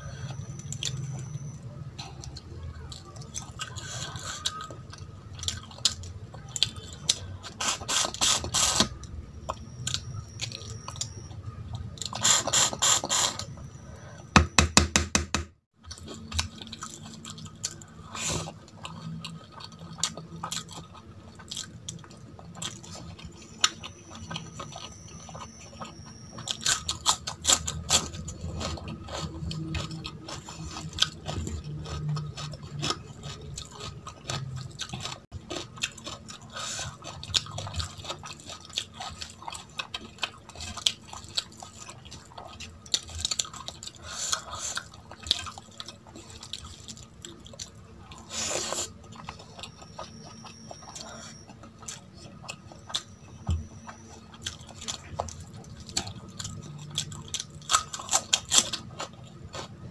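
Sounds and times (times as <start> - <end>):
wet chewing: 0.0 - 13.9, 15.9 - 59.9.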